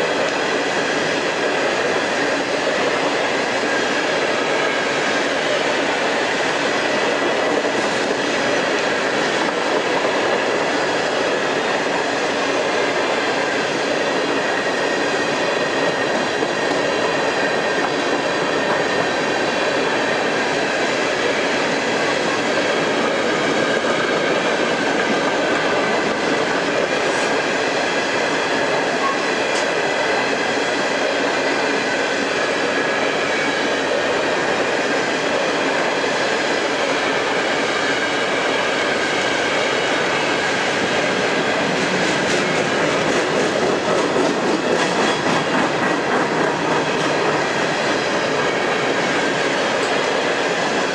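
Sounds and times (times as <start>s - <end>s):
steel wheels rolling on rail: 0.0s - 50.9s.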